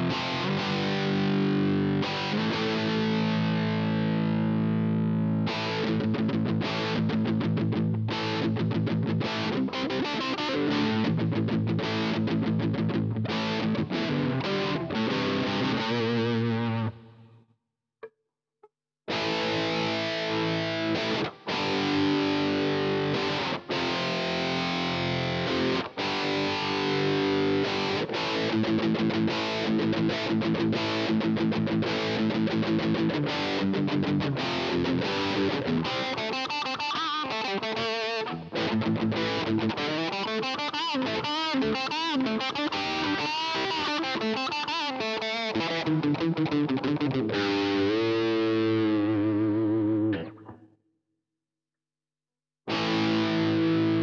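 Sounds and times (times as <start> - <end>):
electric guitar strumming chords: 0.0 - 17.4, 19.1 - 50.6, 52.7 - 54.0.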